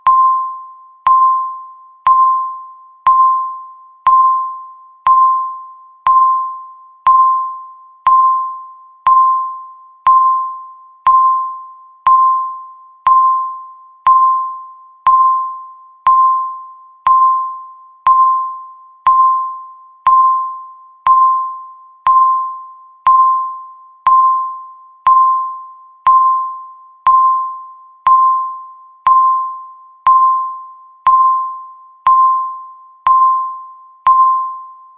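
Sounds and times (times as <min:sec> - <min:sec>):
timer beeps: 0:00.0 - 0:34.9.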